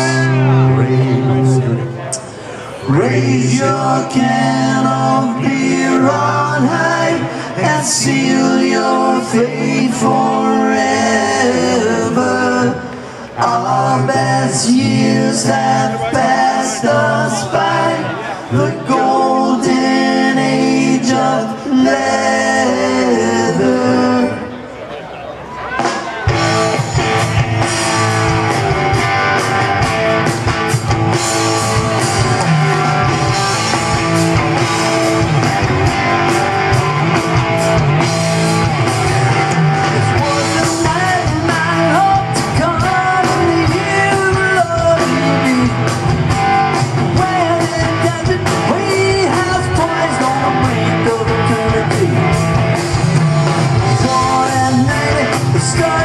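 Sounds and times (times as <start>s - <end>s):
live rock band playing: 0.0s - 23.6s, 25.4s - 56.0s.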